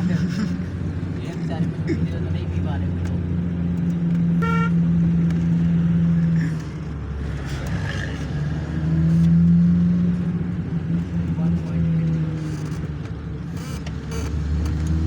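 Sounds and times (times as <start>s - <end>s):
vehicle engine and road drone: 0.0s - 15.0s.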